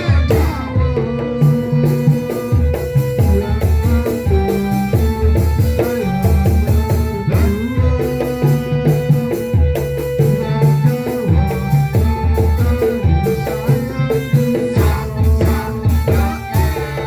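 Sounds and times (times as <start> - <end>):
bass line: 0.0 - 17.0
drum beat: 0.0 - 17.0
instrumental band music: 0.0 - 17.0.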